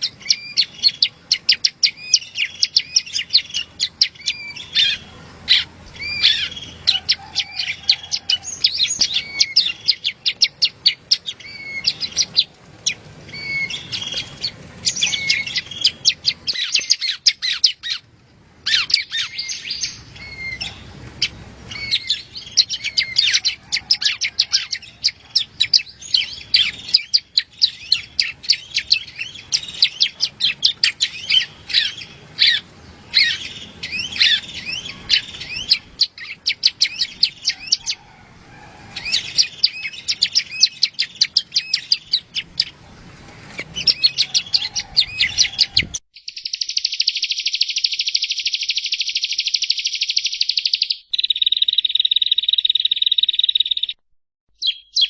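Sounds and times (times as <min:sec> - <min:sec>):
bird chirping rapidly: 0:00.0 - 0:38.1, 0:38.9 - 0:42.9, 0:43.5 - 0:55.0.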